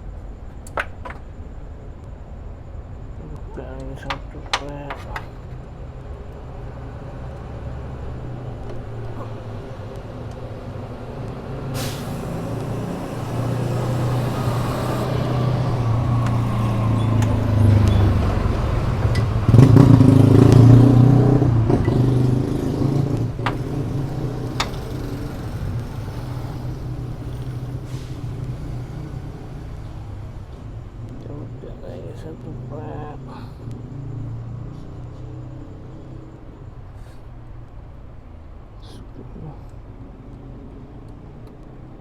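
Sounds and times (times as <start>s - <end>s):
vehicle engine running: 1.2s - 38.8s.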